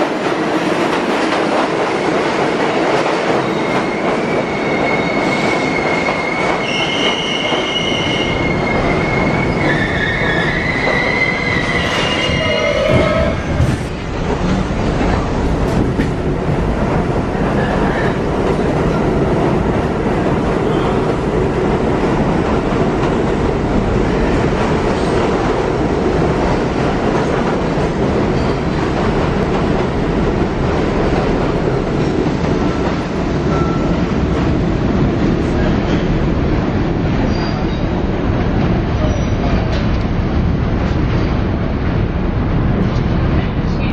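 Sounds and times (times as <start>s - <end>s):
subway train wheels on rails: 0.0s - 43.9s.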